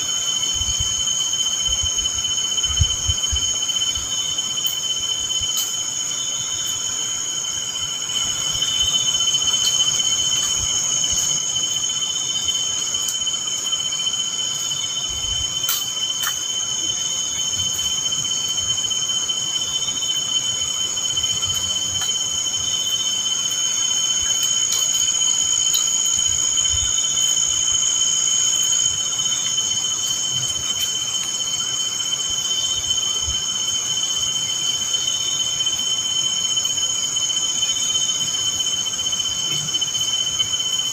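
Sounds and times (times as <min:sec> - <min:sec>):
faint pulsing insect call: 0:00.0 - 0:40.9
night insects chirring: 0:00.0 - 0:40.9.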